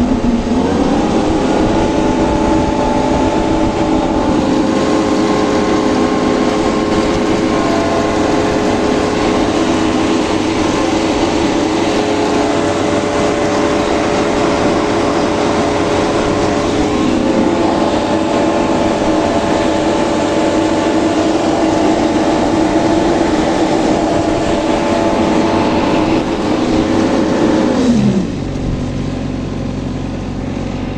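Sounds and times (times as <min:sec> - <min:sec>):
mower engine running: 0:00.0 - 0:30.9.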